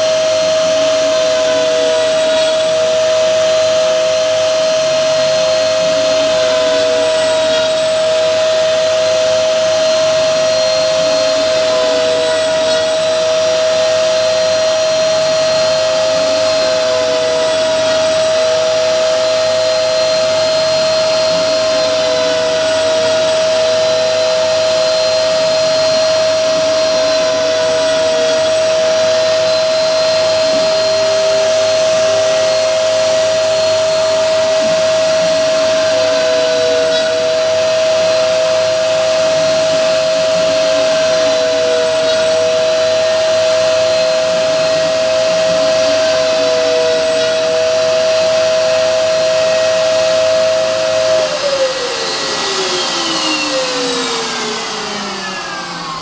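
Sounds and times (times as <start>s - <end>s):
milling machine motors whining: 0.0s - 56.0s.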